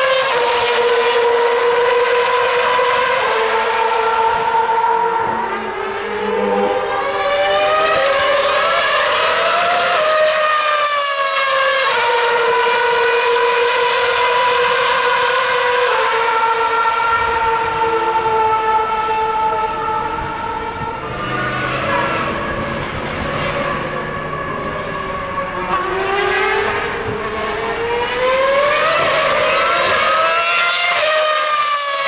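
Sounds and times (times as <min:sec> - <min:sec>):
racing car engine: 0:00.0 - 0:32.0.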